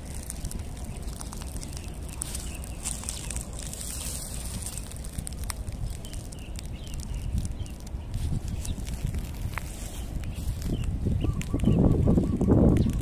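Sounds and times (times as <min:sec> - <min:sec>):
footsteps crunching dry leaves: 0:00.0 - 0:13.0
wind rumble on microphone: 0:00.0 - 0:13.0.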